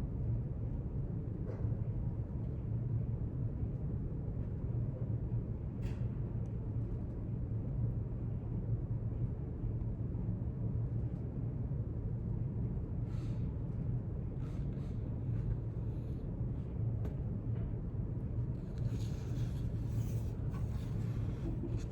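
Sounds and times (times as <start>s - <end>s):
low room hum: 0.0s - 21.9s.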